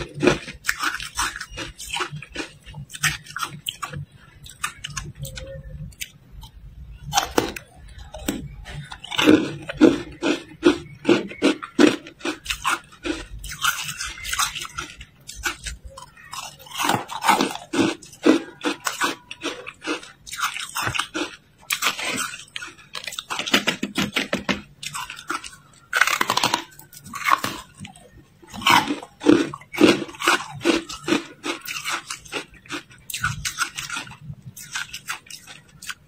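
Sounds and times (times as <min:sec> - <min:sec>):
ice crunching between teeth: 0:00.0 - 0:07.6, 0:08.2 - 0:36.0.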